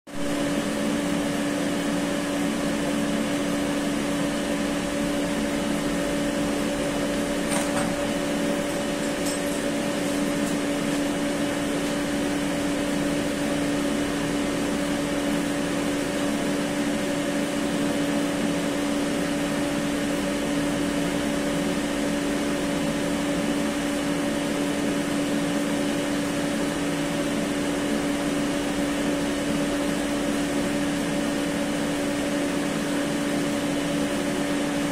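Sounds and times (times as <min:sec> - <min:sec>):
electrical hum with hiss: 0:00.2 - 0:34.9.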